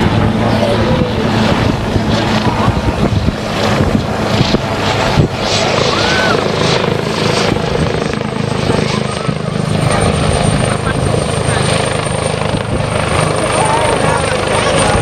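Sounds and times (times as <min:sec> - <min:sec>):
helicopter hovering: 0:00.0 - 0:15.0
pulsing rotor rushing noise: 0:00.0 - 0:15.0.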